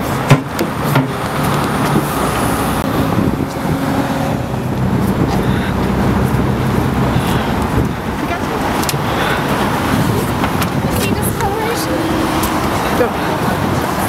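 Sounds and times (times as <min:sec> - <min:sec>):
road traffic noise: 0:00.0 - 0:14.0
truck engine humming: 0:00.0 - 0:14.0.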